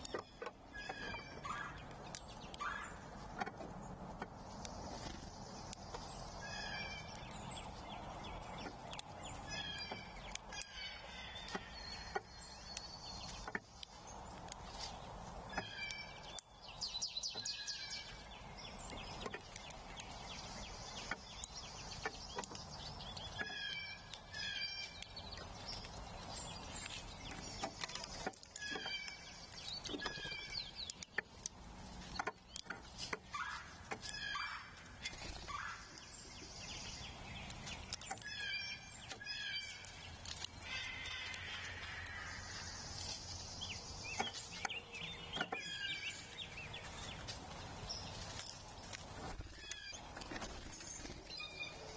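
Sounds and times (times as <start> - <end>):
birds calling: 0.0 - 31.2, 33.3 - 48.2.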